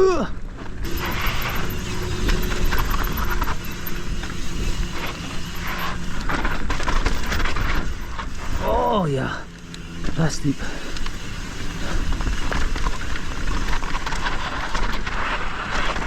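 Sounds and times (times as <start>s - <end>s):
bike tyre noise: 0.4s - 16.0s
bike rattling and knocking: 0.5s - 16.0s.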